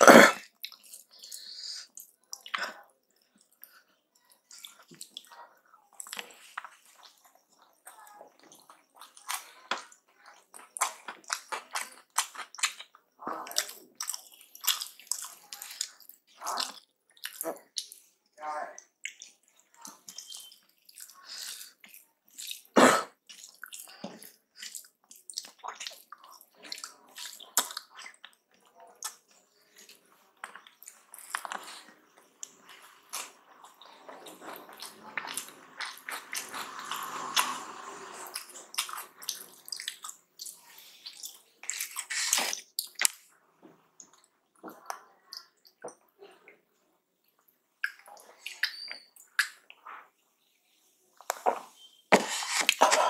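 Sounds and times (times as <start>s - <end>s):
chewing and mouth smacks: 0.4s - 18.1s, 18.8s - 37.5s, 38.3s - 43.3s, 44.0s - 46.6s, 47.2s - 50.1s.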